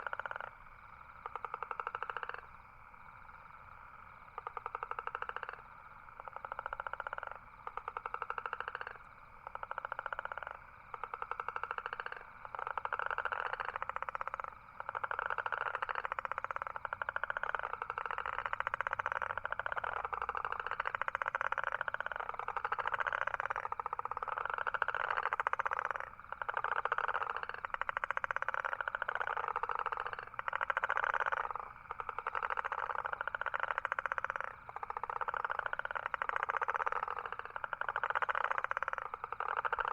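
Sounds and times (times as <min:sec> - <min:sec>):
toads trilling: 0:00.0 - 0:39.9.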